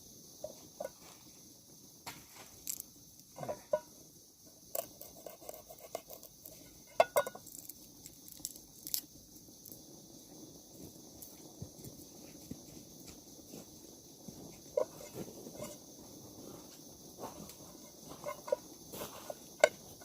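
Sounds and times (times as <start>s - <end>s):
faint high hiss: 0.0s - 20.0s.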